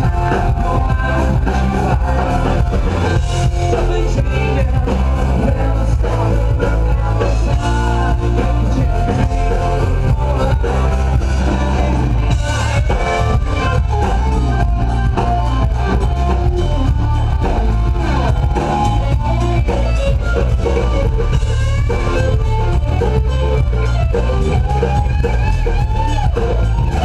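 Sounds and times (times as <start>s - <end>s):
bass guitar: 0.0s - 27.0s
drum kit: 0.0s - 27.0s
electric guitar: 0.0s - 27.0s.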